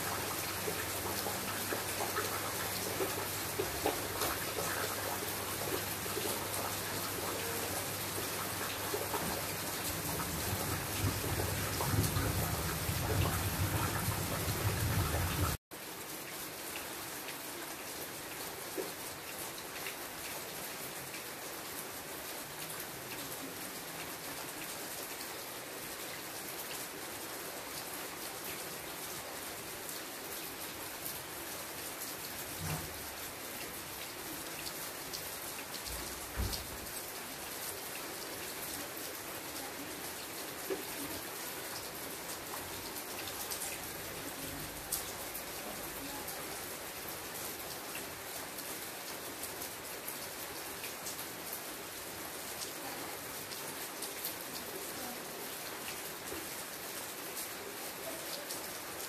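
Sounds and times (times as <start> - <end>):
rain on foliage: 0.0 - 59.0.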